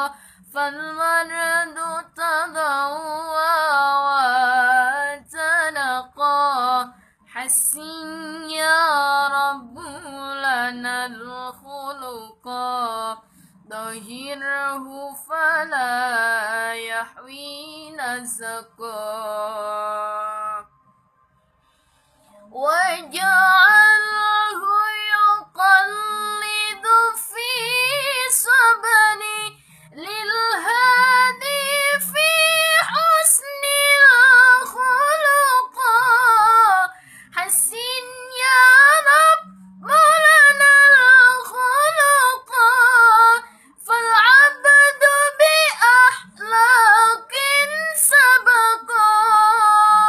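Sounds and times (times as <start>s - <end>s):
woman singing devotional song: 0.0s - 20.8s, 22.3s - 50.0s.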